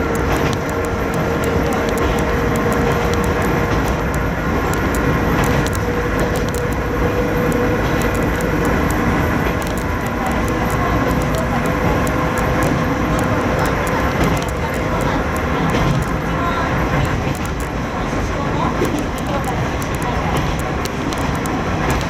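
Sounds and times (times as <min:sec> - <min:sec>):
light ticks: 0:00.0 - 0:17.8, 0:18.4 - 0:22.0
constant humming tone: 0:00.0 - 0:21.9
diesel railcar engine: 0:00.0 - 0:22.0
wheels on rails: 0:00.0 - 0:22.0.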